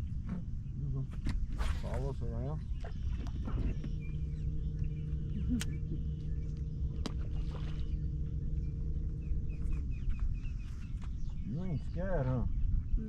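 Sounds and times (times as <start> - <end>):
low motor hum: 0.0 - 13.0
wind rumble: 0.0 - 13.0
faint bird chirps: 1.9 - 13.0.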